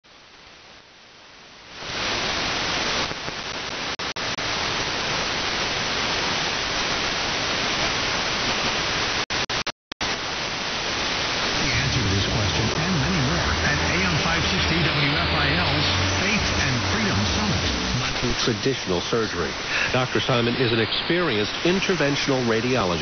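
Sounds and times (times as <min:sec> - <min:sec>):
radio static hiss: 0:00.1 - 0:23.0.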